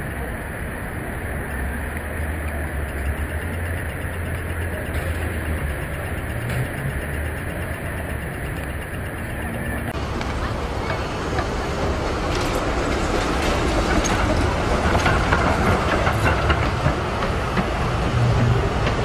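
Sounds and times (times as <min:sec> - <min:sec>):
low engine rumble: 0:00.0 - 0:19.0
street noise: 0:00.0 - 0:19.0.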